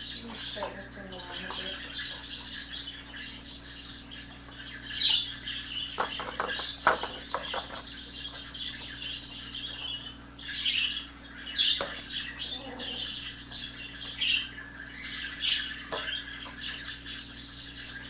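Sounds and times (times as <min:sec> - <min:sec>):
budgerigars chattering and chirping: 0:00.0 - 0:18.0.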